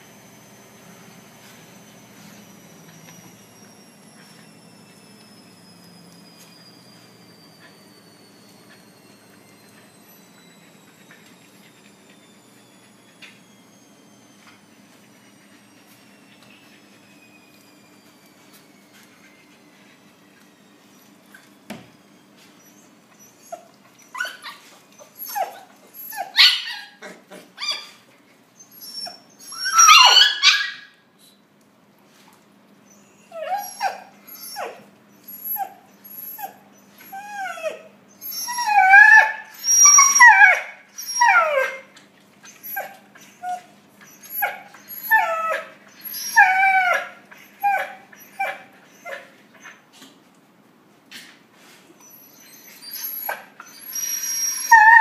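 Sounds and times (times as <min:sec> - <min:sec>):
puppies whining and yelping: 0:00.0 - 0:31.4, 0:32.8 - 0:49.9, 0:51.6 - 0:55.0.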